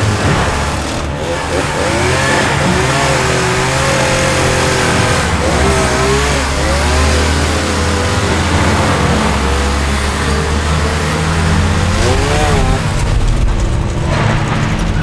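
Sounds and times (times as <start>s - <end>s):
chainsaw cutting: 0.0s - 15.0s
engine low drone: 0.0s - 15.0s.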